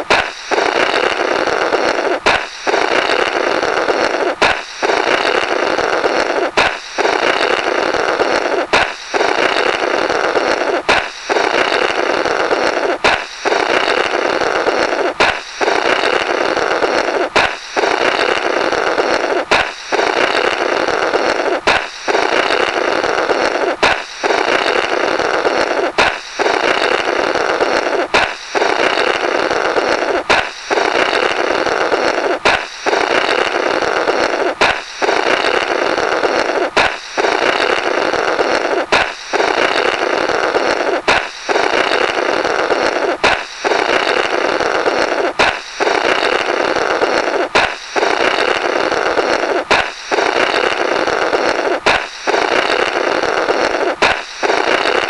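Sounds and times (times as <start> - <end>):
balloon popping: 0.0 - 55.0
blowing through burst balloon: 0.0 - 55.0.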